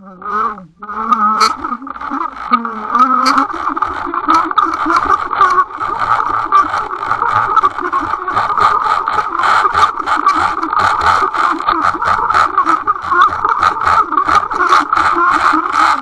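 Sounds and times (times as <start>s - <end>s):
irregular clicks and rattles: 0.0s - 16.0s
steady hum: 0.0s - 16.0s.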